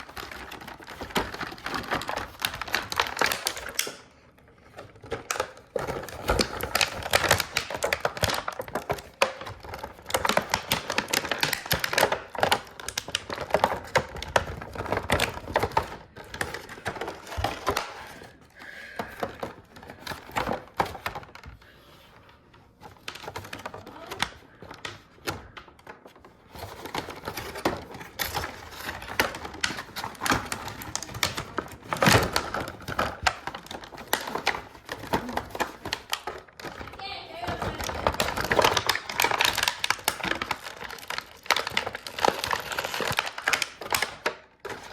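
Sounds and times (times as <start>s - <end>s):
toy packaging being opened: 0.0s - 22.1s, 22.7s - 44.9s.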